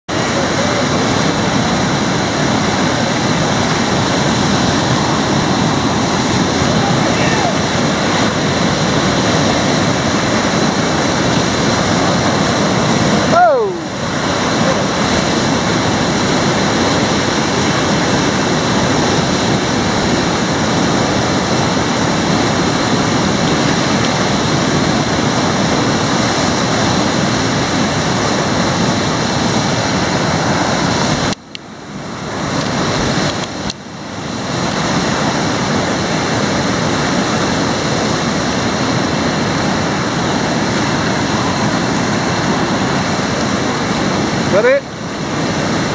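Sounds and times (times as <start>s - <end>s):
rushing whitewater: 0.1s - 45.9s.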